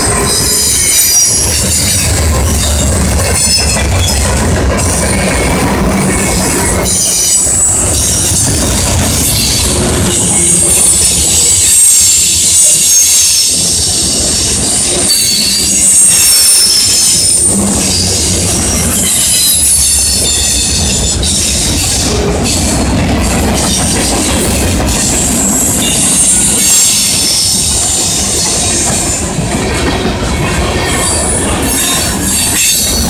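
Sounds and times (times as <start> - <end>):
clack over rail joints: 0.0 - 13.0, 13.6 - 33.0
freight train wheels rumbling: 0.0 - 33.0
wheel squeal: 0.0 - 33.0.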